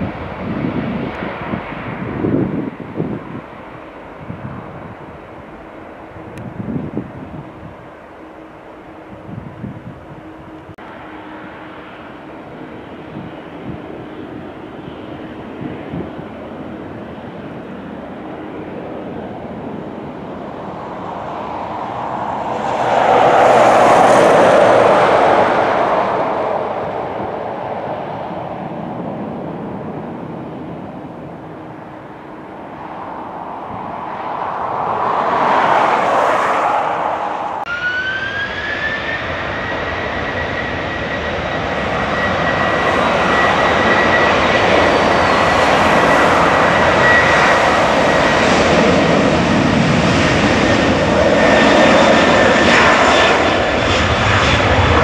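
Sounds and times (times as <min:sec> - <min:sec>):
jet engine whine rising: 0:00.0 - 0:55.0
jet engines rushing: 0:00.0 - 0:55.0.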